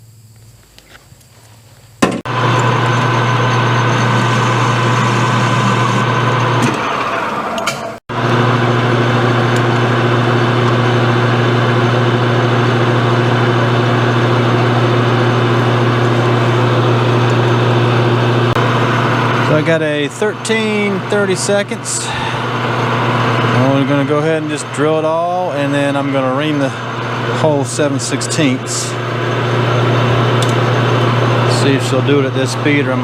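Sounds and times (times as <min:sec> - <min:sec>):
lathe whine: 0:02.2 - 0:33.0
metal lathe motor and gear hum: 0:02.3 - 0:33.0.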